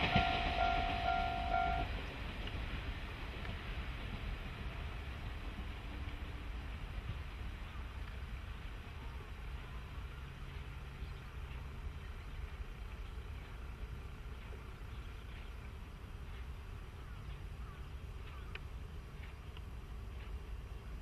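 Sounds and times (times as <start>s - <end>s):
distant diesel railcar drone: 0.0s - 21.0s.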